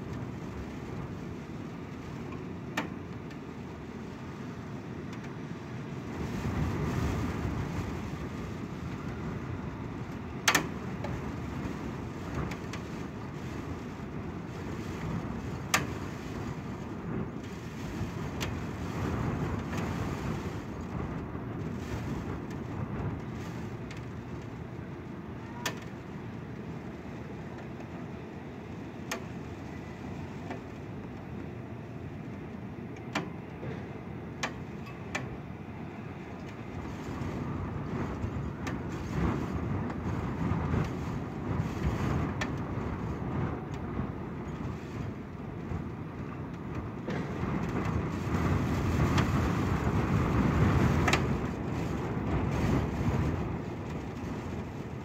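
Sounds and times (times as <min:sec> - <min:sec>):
rain: 0:00.0 - 0:55.0
wind gusting on microphone: 0:00.0 - 0:55.0.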